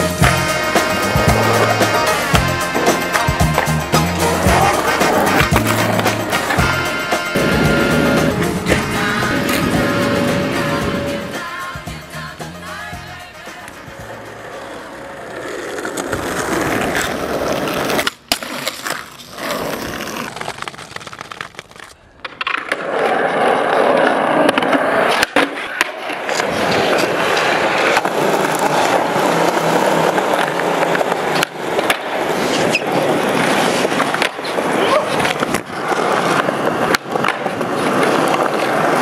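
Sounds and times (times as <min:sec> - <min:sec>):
skateboard clacking on ground: 0:00.0 - 0:11.8, 0:13.3 - 0:39.0
skateboard wheels rolling on pavement: 0:00.0 - 0:39.0.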